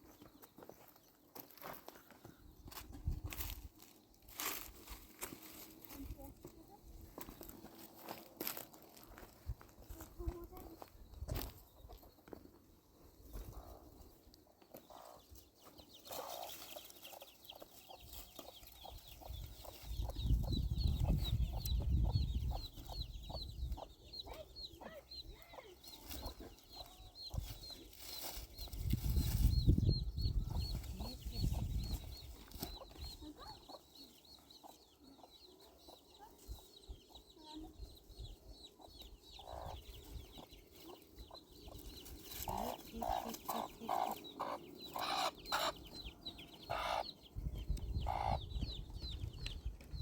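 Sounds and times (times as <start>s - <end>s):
chickens clucking: 9.8s - 50.0s.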